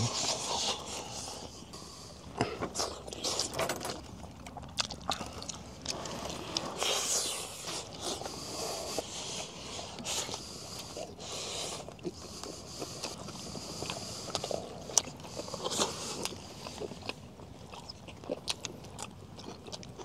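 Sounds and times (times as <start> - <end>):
chewing and biting meat: 0.1 - 20.0.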